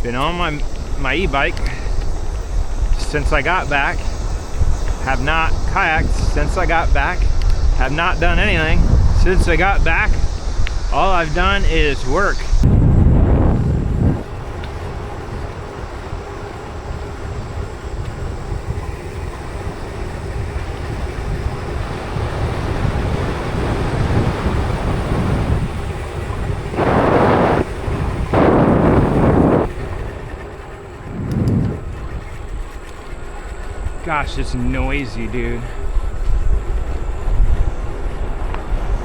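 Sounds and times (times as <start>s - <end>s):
wind rushing over microphone: 0.0s - 33.2s, 33.8s - 39.0s
bike rolling rumble: 0.0s - 39.0s.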